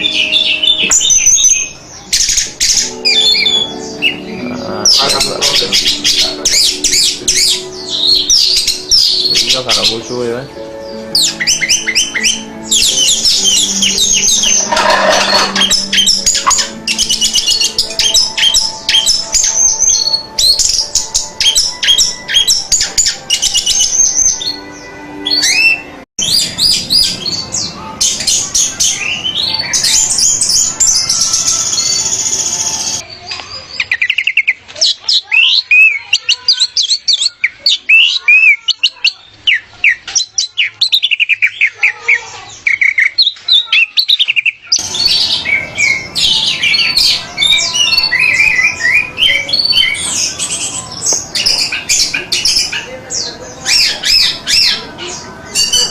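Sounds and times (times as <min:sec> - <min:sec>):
thrush song chirps and trills: 0:00.0 - 0:55.9.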